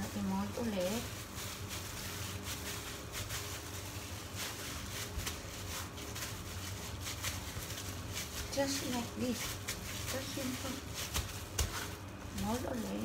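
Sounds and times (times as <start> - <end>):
low steady hum: 0.0 - 13.0
plastic gloves rustling: 0.0 - 13.0.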